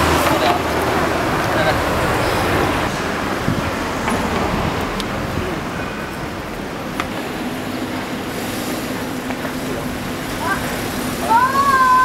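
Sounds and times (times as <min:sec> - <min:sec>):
passing traffic: 0:00.0 - 0:12.0.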